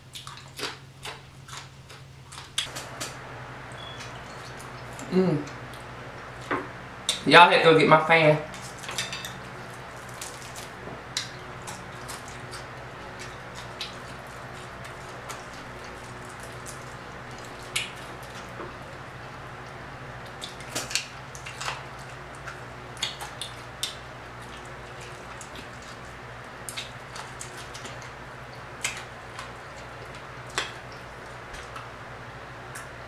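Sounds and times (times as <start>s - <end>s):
chewing crunches: 0.0s - 3.2s, 8.5s - 31.9s
electric fan hum: 0.0s - 33.0s
fried fish crackling: 0.2s - 33.0s.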